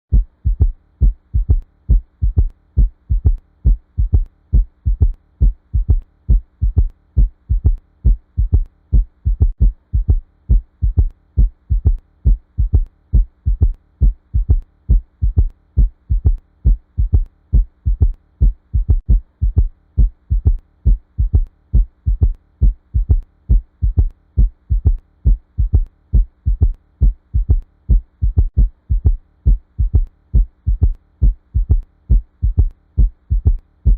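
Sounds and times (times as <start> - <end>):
faint steady hum: 0.1 - 33.9
heartbeat thuds: 0.1 - 33.9.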